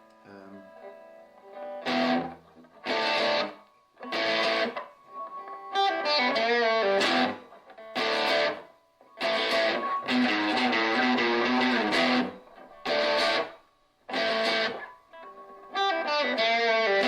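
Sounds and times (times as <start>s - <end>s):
electric guitar chords and bends: 0.0s - 17.0s.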